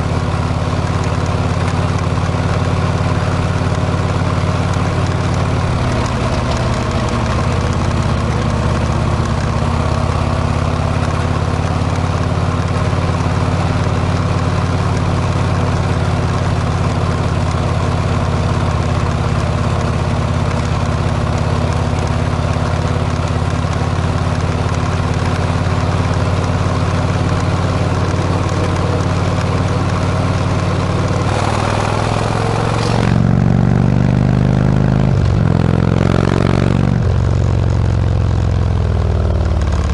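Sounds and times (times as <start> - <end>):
motorcycle exhaust: 0.0 - 39.9.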